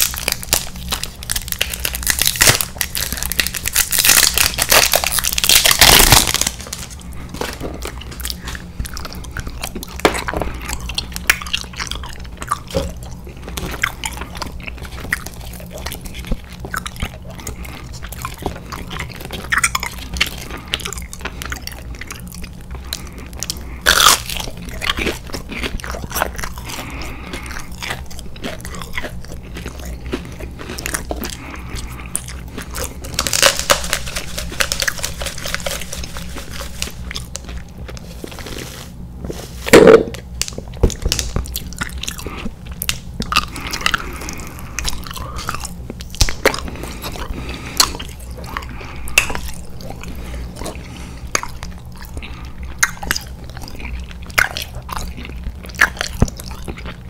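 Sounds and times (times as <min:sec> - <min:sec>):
wet mouth sounds: 0:00.0 - 0:39.1, 0:39.7 - 0:57.0
chewing and biting food: 0:00.0 - 0:57.0
small crunches: 0:00.0 - 0:57.0.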